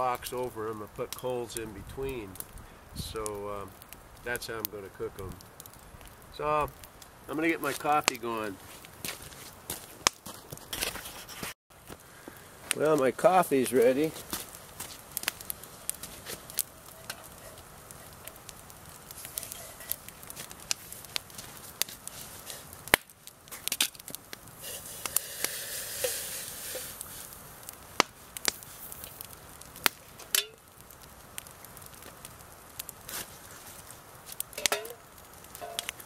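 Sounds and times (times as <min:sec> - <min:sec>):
campfire crackling and popping: 0:00.0 - 0:36.0
fire hissing: 0:00.0 - 0:36.0.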